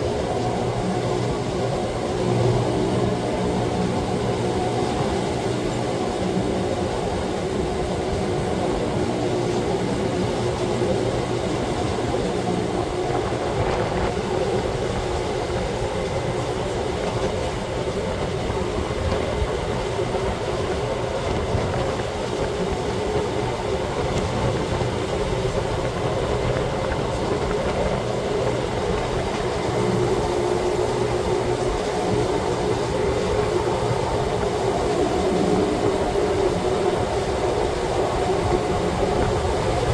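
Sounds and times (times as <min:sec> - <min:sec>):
steady drive hum: 0:00.0 - 0:39.9
train rumbling: 0:00.0 - 0:39.9.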